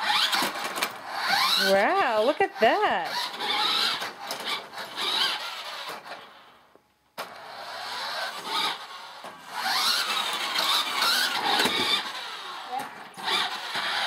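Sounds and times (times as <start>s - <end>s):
toy truck electric motor whining: 0.0s - 6.6s, 7.2s - 14.0s.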